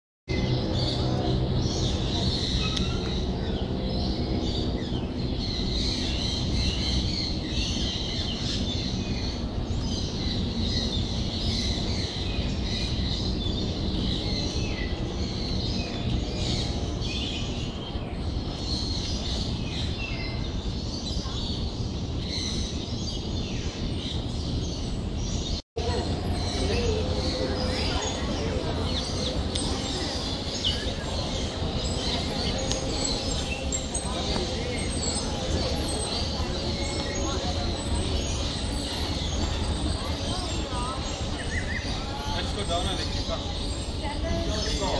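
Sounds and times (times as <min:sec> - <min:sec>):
birds chirping and calling: 0:00.3 - 0:44.9.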